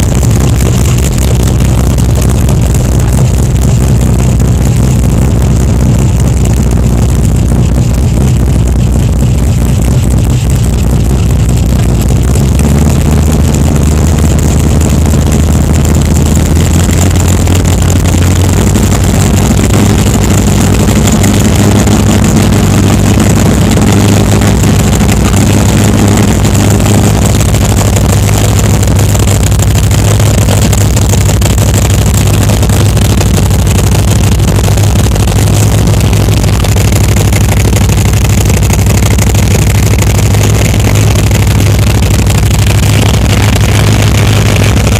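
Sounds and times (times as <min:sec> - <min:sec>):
car engine running loud: 0:00.0 - 0:44.9.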